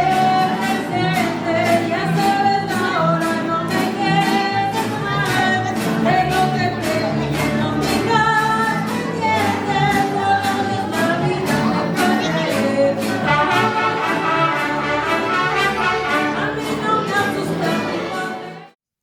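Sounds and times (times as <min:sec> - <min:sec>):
strummed guitar beat: 0:00.0 - 0:18.7.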